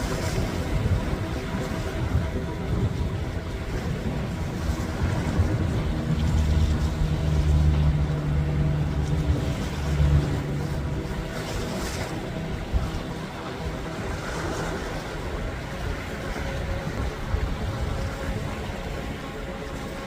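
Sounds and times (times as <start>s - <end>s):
motorboat engine droning: 0.0s - 20.0s
wind and water rushing: 0.0s - 20.0s.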